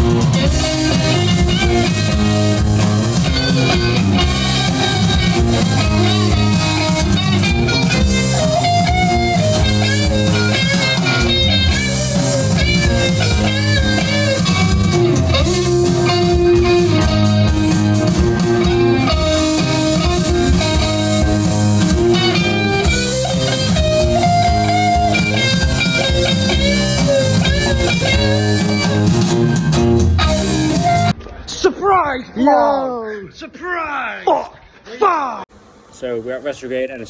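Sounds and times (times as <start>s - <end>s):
bass line: 0.0s - 31.2s
drum kit: 0.0s - 31.2s
electric guitar lead: 0.0s - 31.2s.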